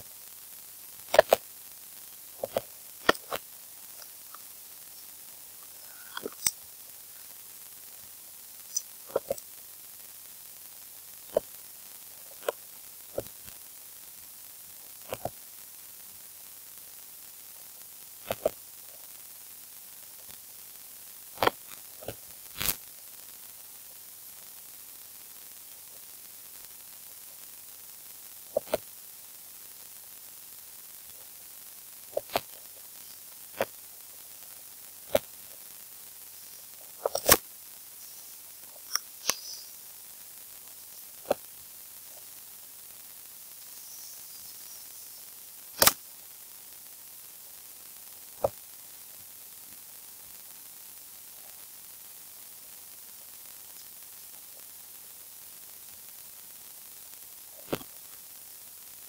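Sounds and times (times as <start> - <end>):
recording hiss: 0.0 - 59.0.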